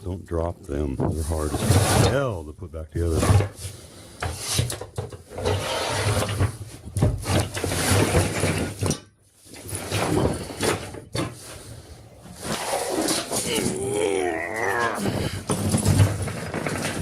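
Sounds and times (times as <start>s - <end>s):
tool box drawers sliding: 1.2s - 2.3s, 3.0s - 13.8s, 15.0s - 17.0s.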